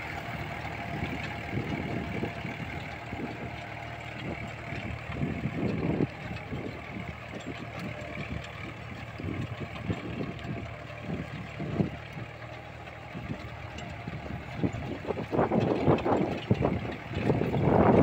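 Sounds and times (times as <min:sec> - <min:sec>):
rotary tiller through soil: 0:00.0 - 0:18.0
tractor diesel engine running: 0:00.0 - 0:18.0
uneven low rumbling: 0:00.0 - 0:18.0.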